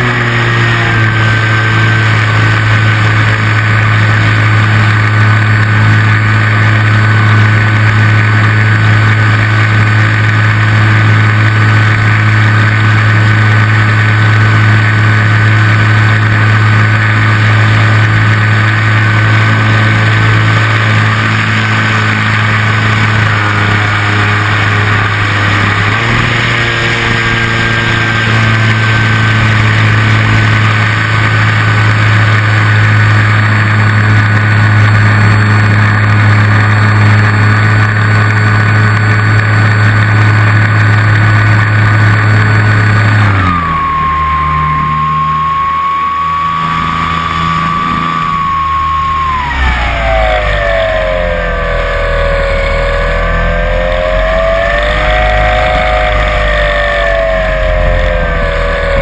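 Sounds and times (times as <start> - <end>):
model plane motor and propeller: 0.0 - 59.0.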